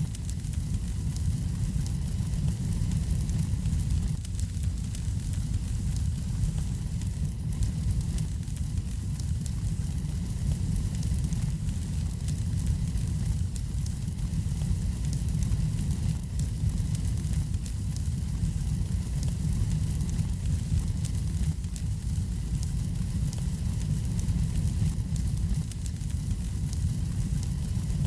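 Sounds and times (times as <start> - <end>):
fire crackling and popping: 0.0 - 28.0
wood fire rumbling: 0.0 - 28.0.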